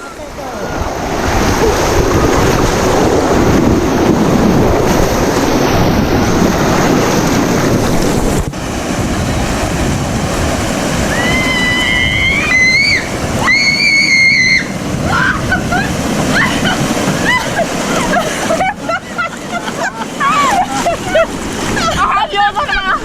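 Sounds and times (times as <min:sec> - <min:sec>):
rushing flowing water: 0:00.0 - 0:23.0
wind buffeting microphone: 0:00.0 - 0:23.0.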